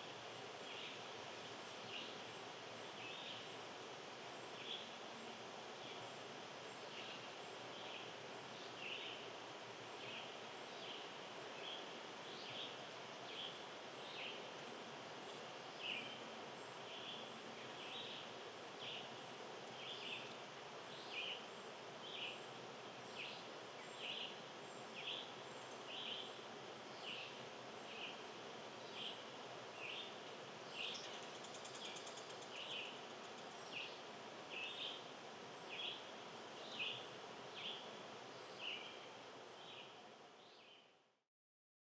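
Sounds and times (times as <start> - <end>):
faint outdoor hiss: 0.0 - 41.3.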